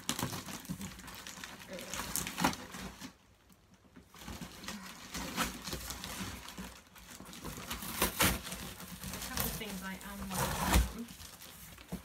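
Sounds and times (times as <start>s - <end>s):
packing paper rustling: 0.0s - 12.0s.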